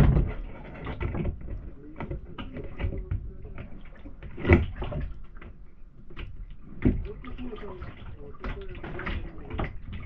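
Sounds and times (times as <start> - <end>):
water sloshing from paddling: 0.0 - 10.0.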